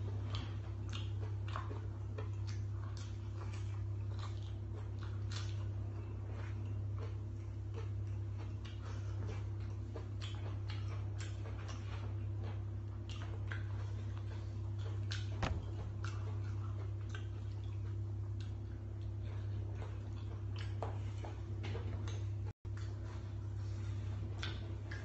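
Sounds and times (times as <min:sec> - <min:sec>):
person chewing with mouth open: 0:00.0 - 0:25.0
steady low hum: 0:00.0 - 0:25.0.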